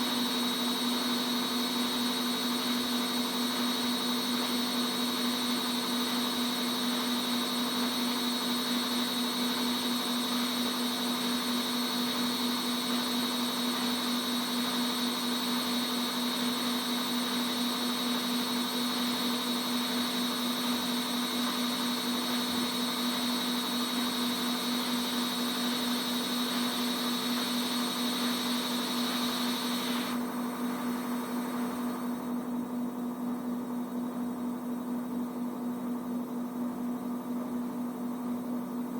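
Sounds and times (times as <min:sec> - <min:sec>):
washing machine whirring hum: 0:00.0 - 0:38.9.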